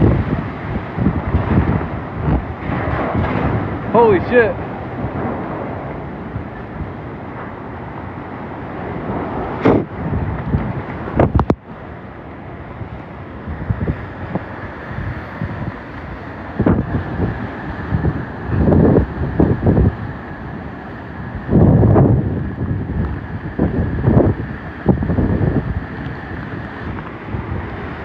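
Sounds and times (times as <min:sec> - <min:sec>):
wind roaring on microphone: 0:00.0 - 0:28.0.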